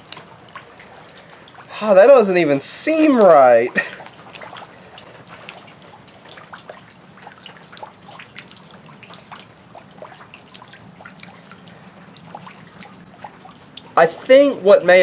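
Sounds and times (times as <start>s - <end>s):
faint steady hum: 0.0s - 15.0s
rain dripping and pattering: 0.0s - 15.0s.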